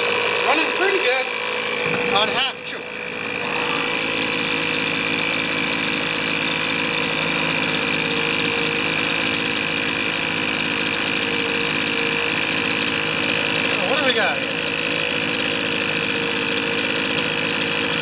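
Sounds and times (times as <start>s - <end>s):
leaf blower engine running: 0.0s - 18.0s.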